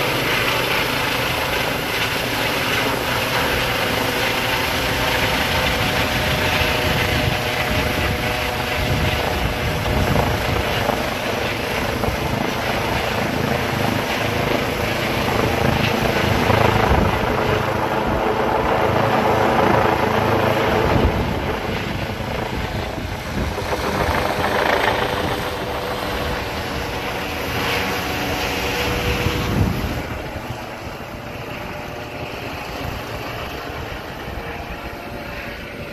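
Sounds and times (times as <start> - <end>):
helicopter engine hum: 0.0 - 35.9
helicopter rotor beating: 0.0 - 35.9.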